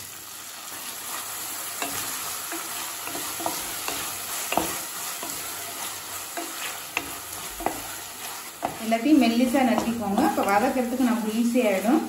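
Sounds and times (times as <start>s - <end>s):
vegetables sizzling in hot oil: 0.0s - 12.0s
wooden spatula scraping a pan: 0.7s - 12.0s.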